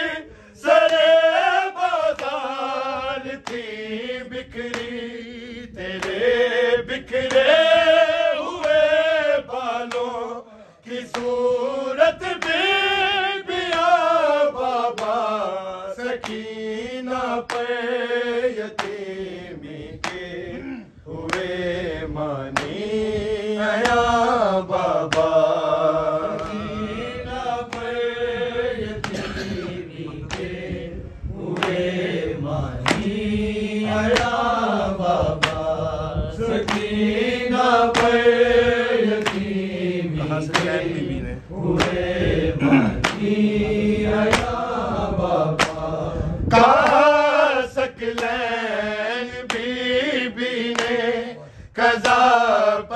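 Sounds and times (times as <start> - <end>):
sharp rhythmic chest beating: 0.0 - 51.2
men chanting a lament: 0.0 - 52.9.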